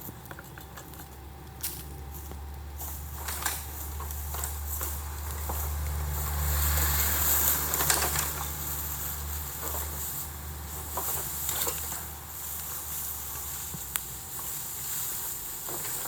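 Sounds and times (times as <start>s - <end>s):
bonfire crackling and popping: 0.0s - 16.0s
low fire rumble: 0.0s - 16.0s.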